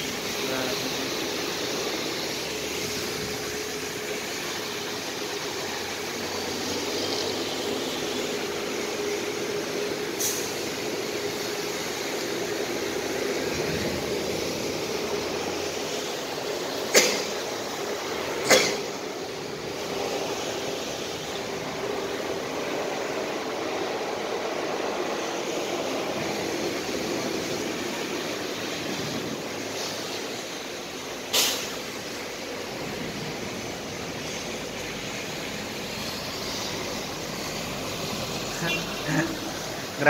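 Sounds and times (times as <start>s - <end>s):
heavy rain falling: 0.0s - 40.0s
vehicles splashing through water: 0.0s - 40.0s.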